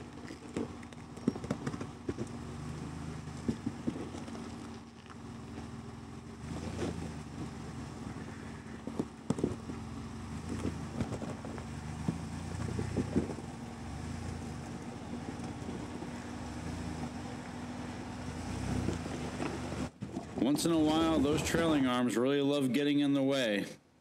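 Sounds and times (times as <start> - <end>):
rock knocking and scraping: 0.0 - 5.8, 6.4 - 17.6, 18.2 - 21.7
vehicle engine running: 0.0 - 22.2.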